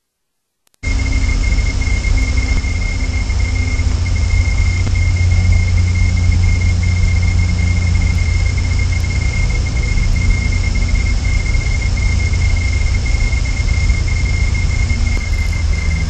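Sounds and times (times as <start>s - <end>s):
high-pitched whine: 0.8s - 16.0s
low rumble and hiss: 0.8s - 16.0s.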